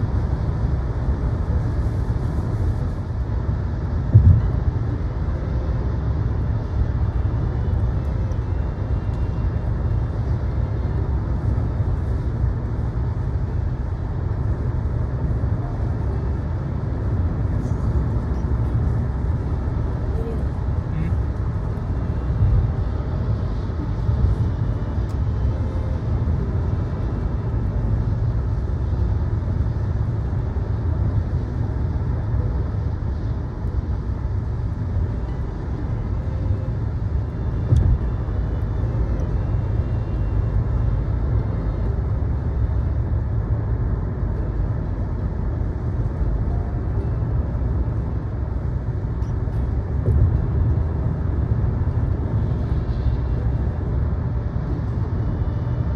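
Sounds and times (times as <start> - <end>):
car road and engine noise: 0.0 - 55.9.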